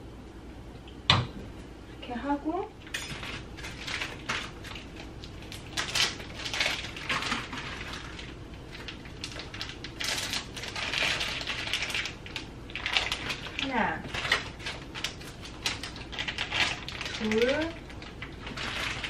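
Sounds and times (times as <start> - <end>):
plastic packet crinkling: 2.8 - 19.0.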